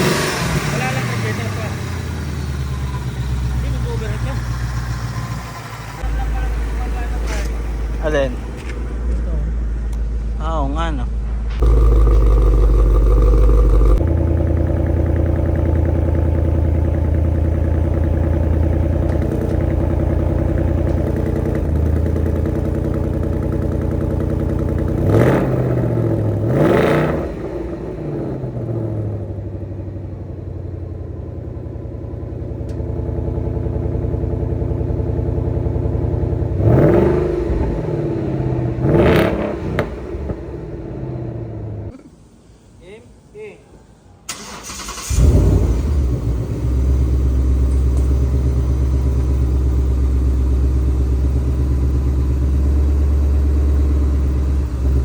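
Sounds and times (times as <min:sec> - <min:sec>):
engine revving: 0:00.0 - 0:08.2, 0:11.5 - 0:29.8, 0:32.7 - 0:42.0, 0:44.3 - 0:55.0
car engine idling: 0:00.0 - 0:10.8, 0:11.5 - 0:42.0, 0:44.3 - 0:55.0.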